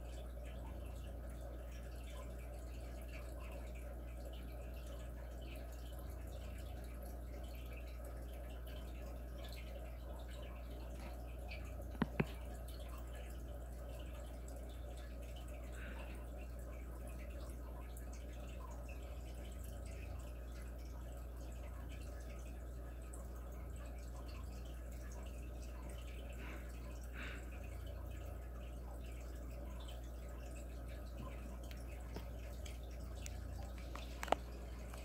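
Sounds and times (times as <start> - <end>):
low room hum: 0.0 - 35.0.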